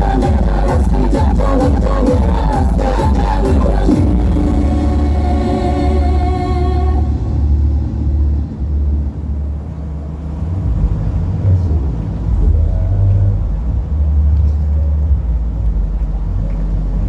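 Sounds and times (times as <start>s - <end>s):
deep bass notes from sound system: 0.0s - 17.0s.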